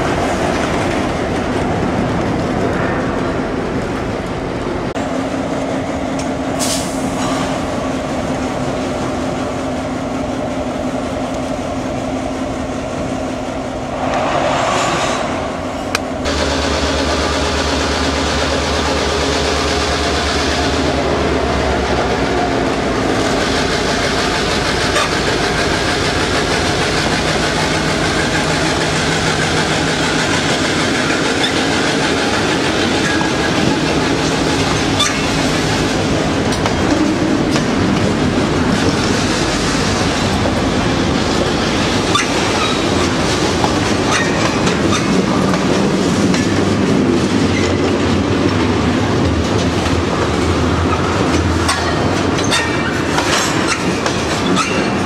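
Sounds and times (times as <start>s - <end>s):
diesel locomotive engine: 0.0s - 55.0s
train rolling by rumble: 0.0s - 55.0s.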